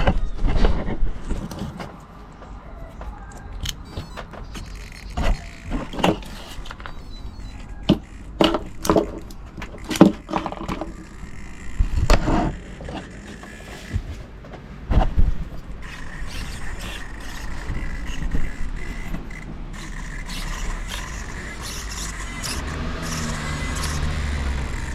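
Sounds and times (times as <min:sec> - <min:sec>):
low background hum: 0:00.0 - 0:24.9.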